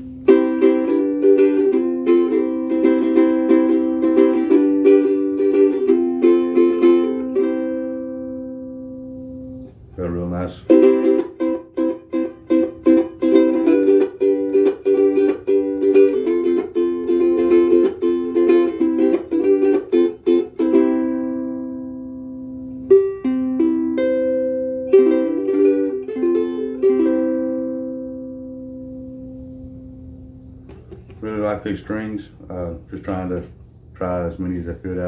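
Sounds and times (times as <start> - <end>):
ukulele strumming: 0.0 - 31.8.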